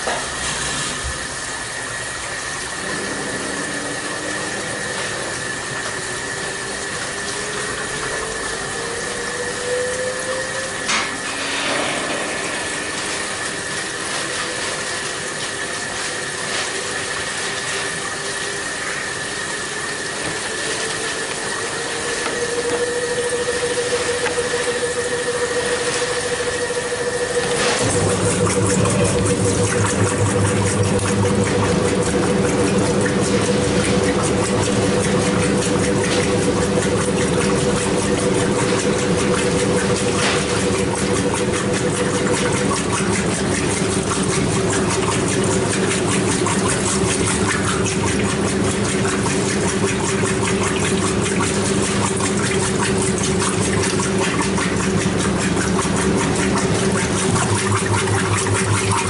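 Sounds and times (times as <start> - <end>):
washer motor hum: 0.0 - 59.0
water rushing in washer: 0.0 - 59.0.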